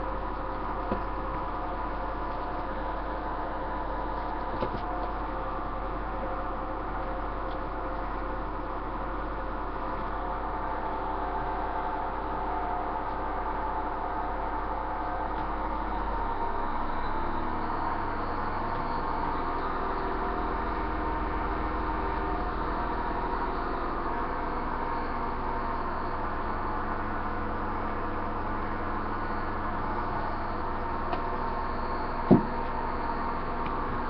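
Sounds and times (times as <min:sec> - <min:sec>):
low hum and hiss: 0:00.0 - 0:34.0.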